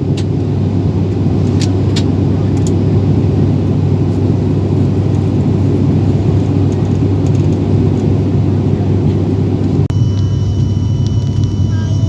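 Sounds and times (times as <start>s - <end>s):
airliner engine and airflow rumble: 0.0s - 12.0s.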